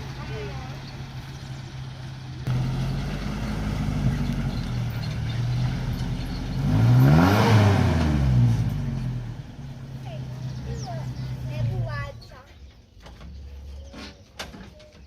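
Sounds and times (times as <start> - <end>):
truck engine running and revving: 0.0 - 12.4.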